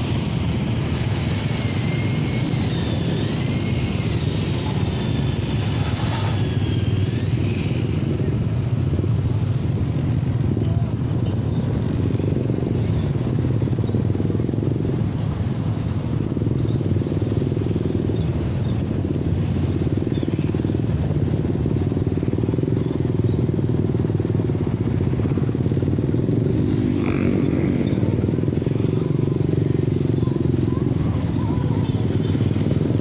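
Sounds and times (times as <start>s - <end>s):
other motorcycles in traffic: 0.0s - 33.0s
small motorcycle engine running: 0.0s - 33.0s.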